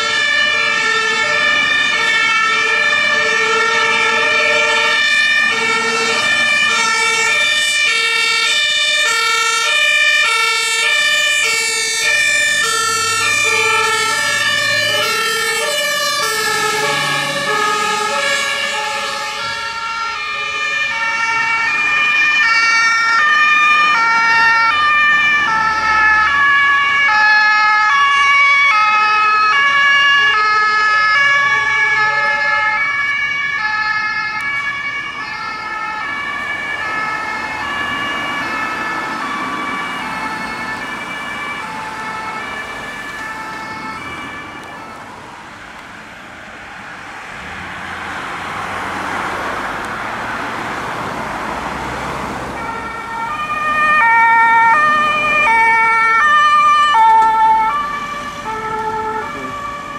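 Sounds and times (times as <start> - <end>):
passing vehicle road noise: 0.0 - 59.9
two-tone emergency sirens: 0.0 - 59.9.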